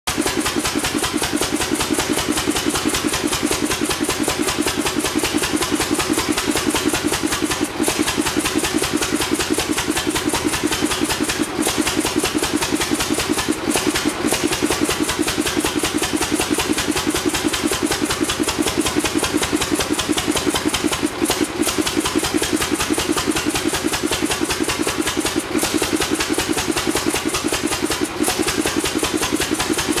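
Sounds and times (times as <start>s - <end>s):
stationary gasoline engine running: 0.1s - 30.0s.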